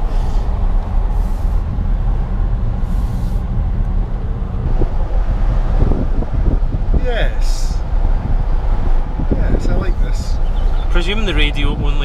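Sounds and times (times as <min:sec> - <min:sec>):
wind and road noise in car: 0:00.0 - 0:12.0.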